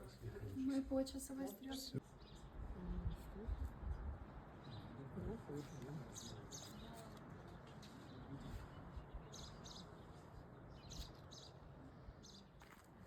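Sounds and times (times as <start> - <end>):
small birds chirping: 1.5 - 12.8.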